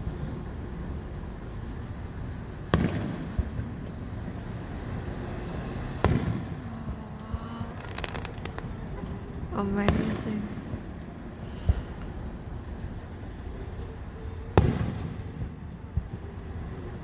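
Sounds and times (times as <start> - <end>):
fireworks crackling: 0.0 - 17.0
low background noise: 0.0 - 17.0
fireworks booming: 1.6 - 17.0.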